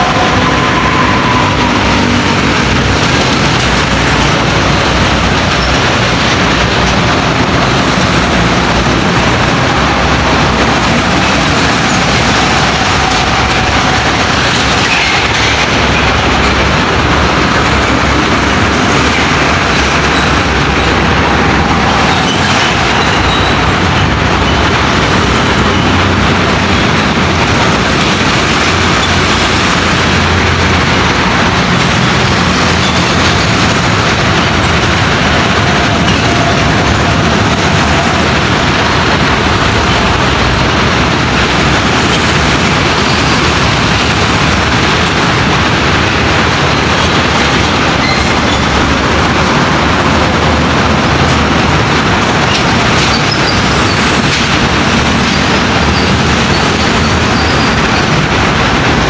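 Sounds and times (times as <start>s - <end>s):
heavy road traffic: 0.0s - 59.0s.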